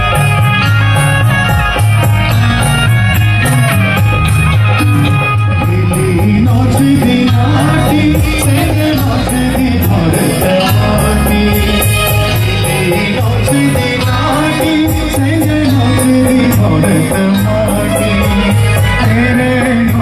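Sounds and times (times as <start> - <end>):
live folk music: 0.0 - 20.0.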